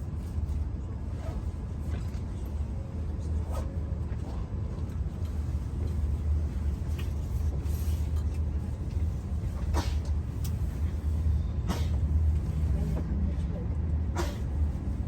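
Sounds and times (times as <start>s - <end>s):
train cabin low rumble: 0.0s - 15.0s.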